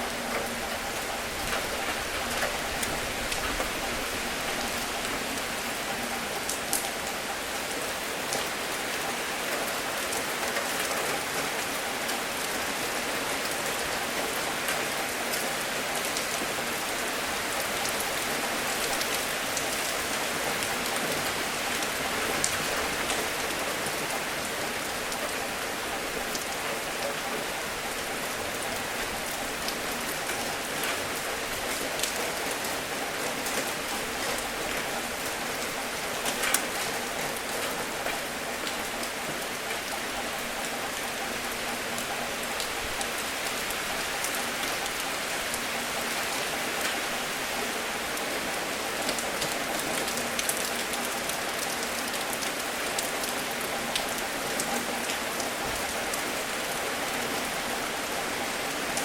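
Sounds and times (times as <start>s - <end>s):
sharp ticks of raindrops: 0.0s - 59.0s
steady rain hiss: 0.0s - 59.0s.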